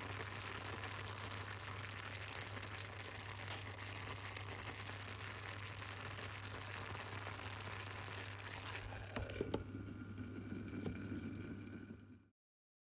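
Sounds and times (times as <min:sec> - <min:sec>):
pot of food boiling: 0:00.0 - 0:12.3.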